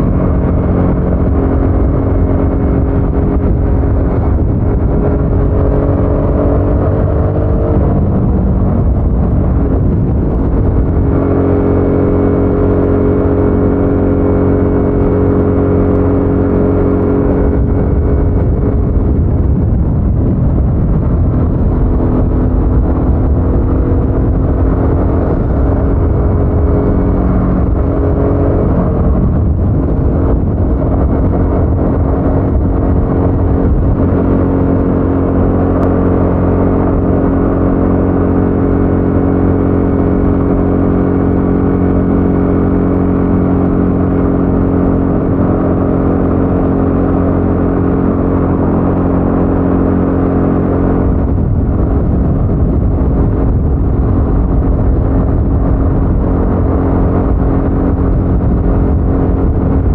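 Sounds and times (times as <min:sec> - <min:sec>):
motorcycle engine on the move: 0:00.0 - 0:59.9.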